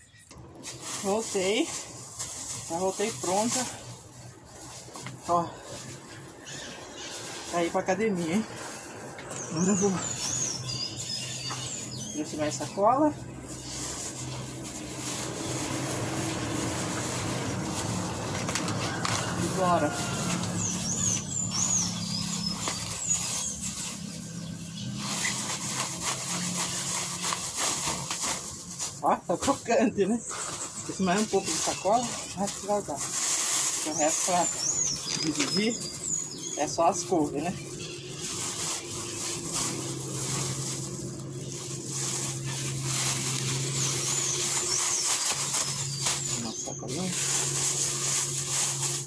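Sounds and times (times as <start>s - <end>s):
birds chirping: 0.0s - 49.0s
plastic bag crinkling: 0.3s - 49.0s.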